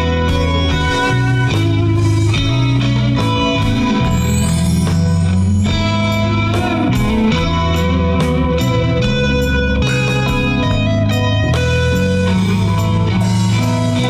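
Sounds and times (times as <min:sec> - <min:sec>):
bass and drums: 0:00.0 - 0:14.0
blues guitar lead: 0:00.0 - 0:14.0.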